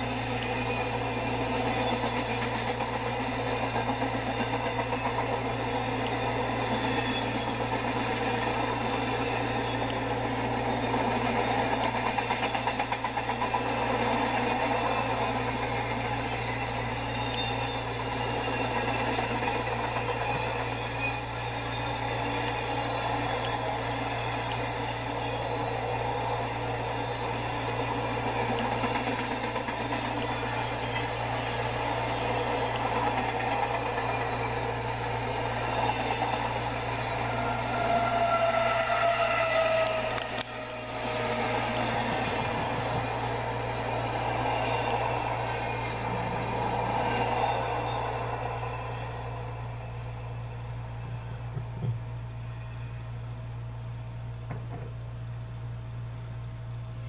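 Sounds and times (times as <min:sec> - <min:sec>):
train wheels rolling on rails: 0:00.0 - 0:55.2.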